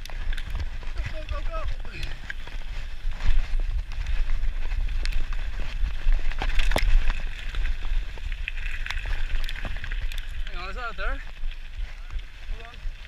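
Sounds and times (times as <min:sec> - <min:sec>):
bike rattling clicks and knocks: 0:00.0 - 0:11.6
bike tyres rolling on gravel: 0:00.0 - 0:13.0.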